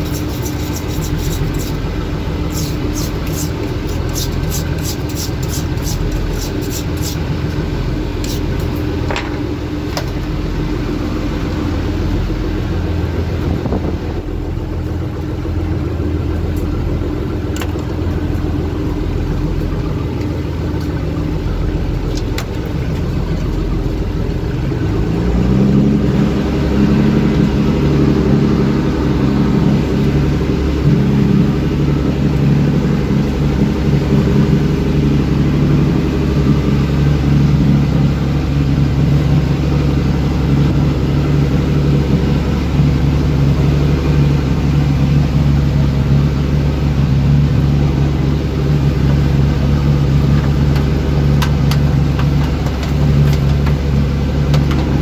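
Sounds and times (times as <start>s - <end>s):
boat motor running: 0.0s - 55.0s
wind: 0.0s - 55.0s.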